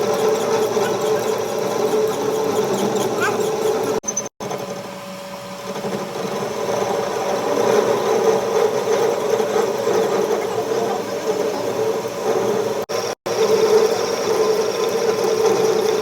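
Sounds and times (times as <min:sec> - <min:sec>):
workshop machine motor humming: 0:00.0 - 0:16.0.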